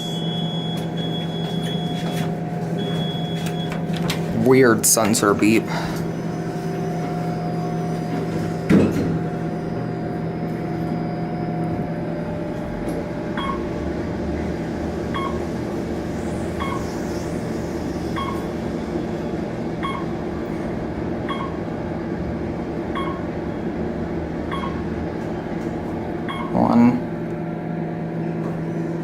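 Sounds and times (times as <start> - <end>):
elevator hum: 0.0 - 29.0.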